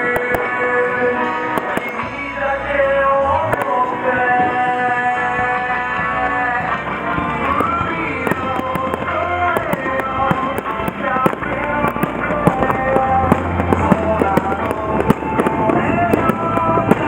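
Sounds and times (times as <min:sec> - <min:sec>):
fireworks popping and cracking: 0:00.0 - 0:17.0
loud music with heavy bass: 0:00.0 - 0:17.0.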